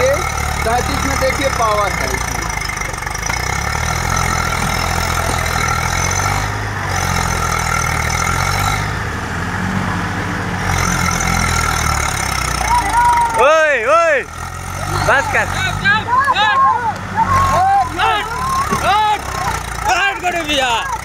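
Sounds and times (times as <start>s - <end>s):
tractor diesel engines under load: 0.0s - 21.0s.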